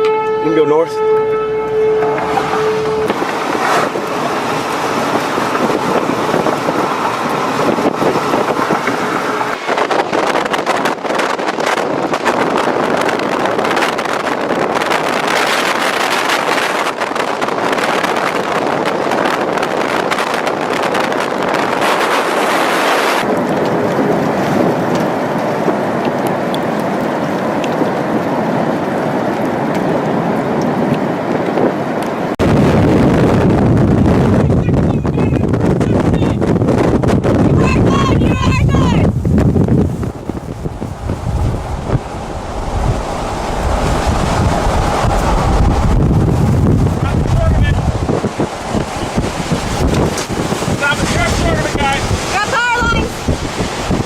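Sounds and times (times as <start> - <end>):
strong wind blasting microphone: 0.0 - 54.0.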